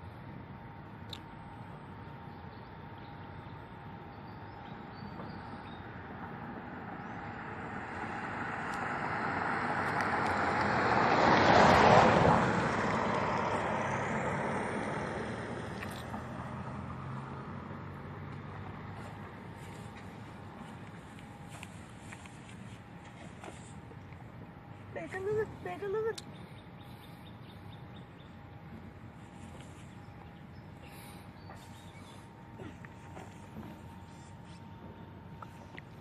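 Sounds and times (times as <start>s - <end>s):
road vehicle passing by: 1.6s - 36.0s.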